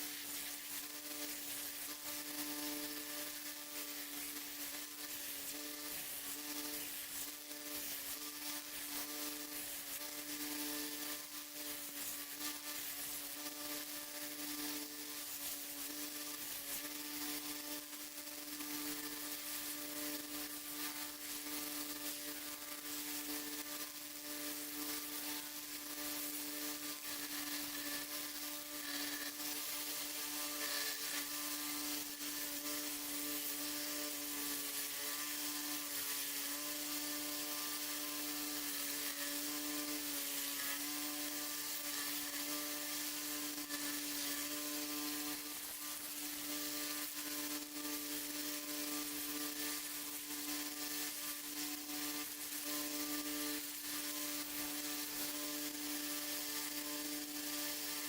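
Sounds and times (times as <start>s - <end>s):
belt sander motor humming: 0.0s - 58.0s
sanding belt grinding metal: 0.0s - 58.0s.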